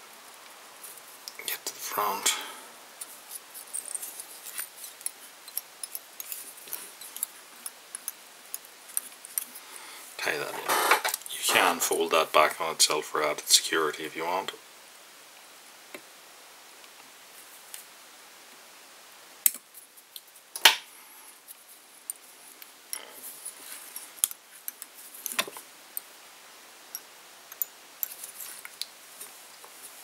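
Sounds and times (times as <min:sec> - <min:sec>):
faint room hiss: 0:00.0 - 0:30.0.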